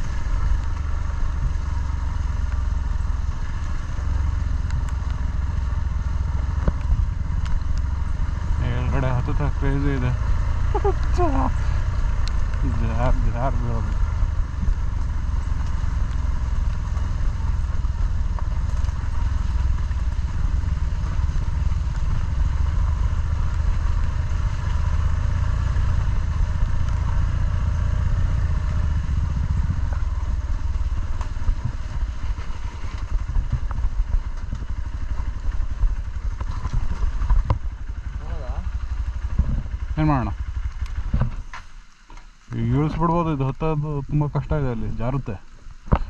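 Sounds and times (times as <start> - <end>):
motorcycle engine rumbling: 0.0 - 46.0.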